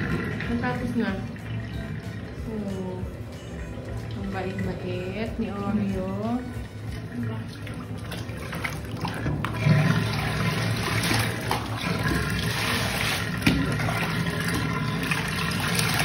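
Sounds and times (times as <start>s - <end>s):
water pouring and splashing: 0.0s - 16.0s.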